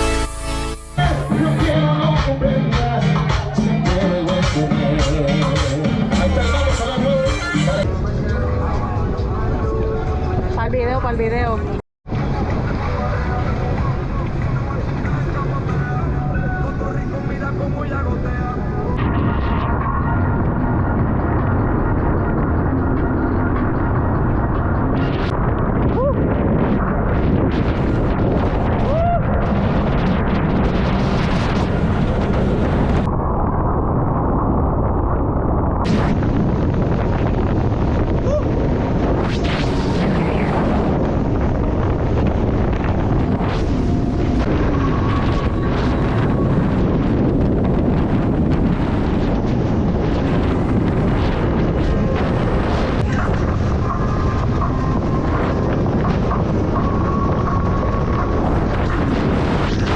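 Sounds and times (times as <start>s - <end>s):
wind buffeting microphone: 2.9s - 59.9s.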